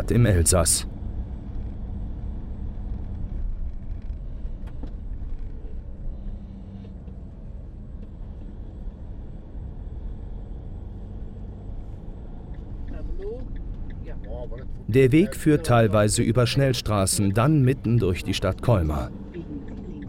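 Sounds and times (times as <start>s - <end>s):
motorhome engine and road noise: 0.0s - 20.0s.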